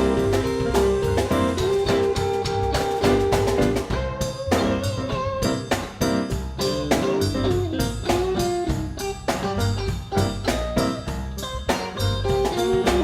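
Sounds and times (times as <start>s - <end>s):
bass: 0.0s - 13.0s
drum kit beat: 0.0s - 13.0s
guitar with bent notes: 0.0s - 13.0s.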